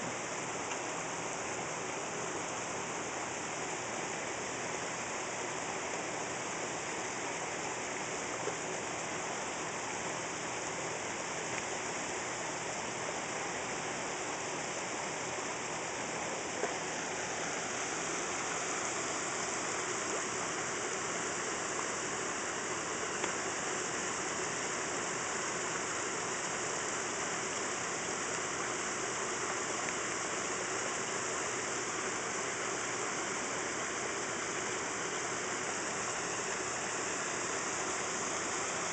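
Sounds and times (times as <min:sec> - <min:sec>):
waterfall splashing over rocks: 0:00.0 - 0:38.9.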